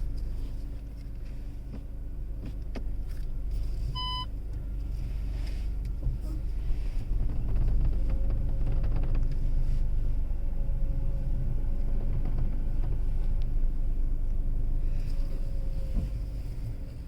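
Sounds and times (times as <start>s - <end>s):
car low rumble: 0.0s - 17.0s.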